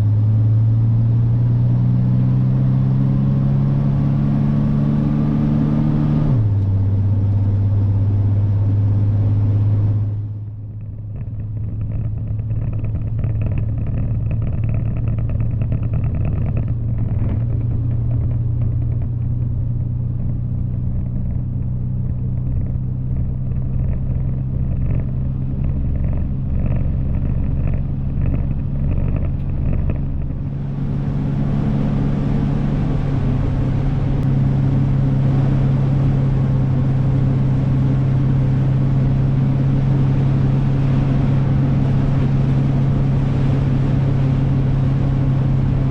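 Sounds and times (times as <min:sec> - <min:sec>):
car engine running: 0:00.0 - 0:45.9.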